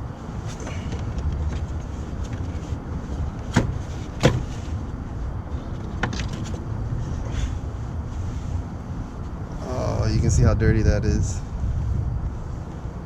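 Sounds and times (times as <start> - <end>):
low wind rumble on microphone: 0.0 - 13.0.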